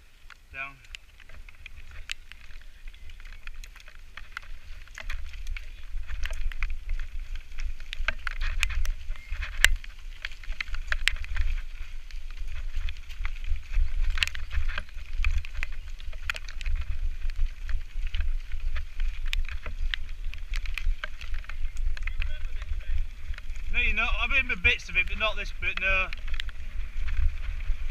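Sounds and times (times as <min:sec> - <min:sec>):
wind buffeting microphone: 0:00.0 - 0:27.9
bike clicks and rattles: 0:00.2 - 0:27.9.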